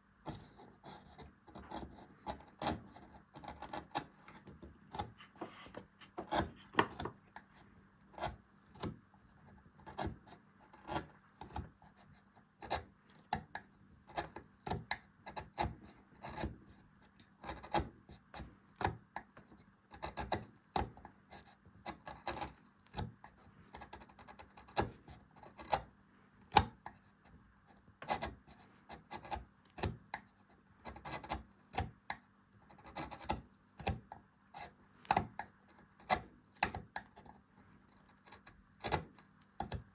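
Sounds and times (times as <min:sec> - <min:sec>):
carving tools scraping wood: 0:00.2 - 0:39.9.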